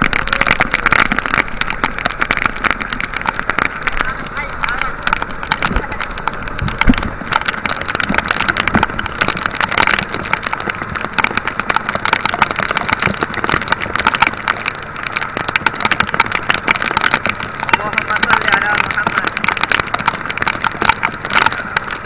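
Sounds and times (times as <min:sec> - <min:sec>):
boat engine drone: 0:00.0 - 0:22.0
heavy rain on water and boat: 0:00.0 - 0:22.0.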